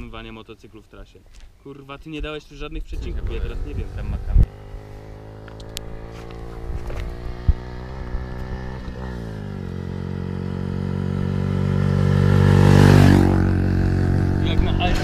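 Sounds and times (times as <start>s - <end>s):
motorcycle engine approaching: 3.0s - 15.0s.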